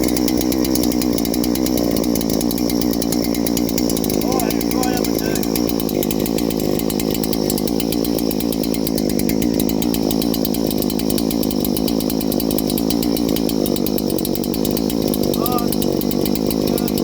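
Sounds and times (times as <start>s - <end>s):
two-stroke chainsaw engine running: 0.0s - 17.0s.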